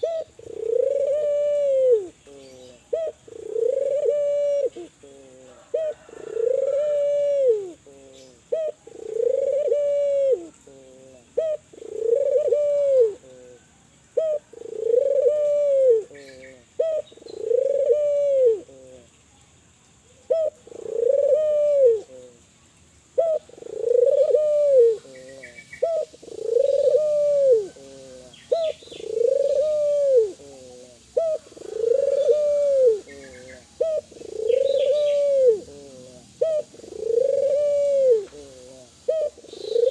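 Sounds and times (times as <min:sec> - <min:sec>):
dove cooing: 0:00.0 - 0:19.2, 0:20.2 - 0:22.4, 0:23.2 - 0:39.9.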